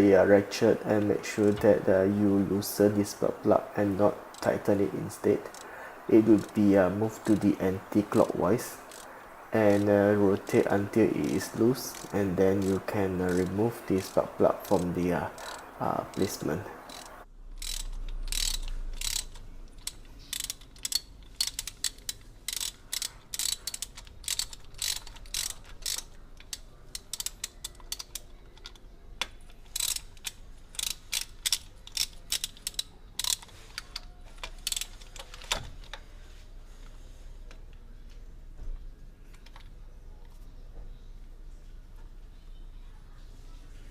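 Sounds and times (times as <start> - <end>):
socket ratchet clicking: 0.6 - 36.0.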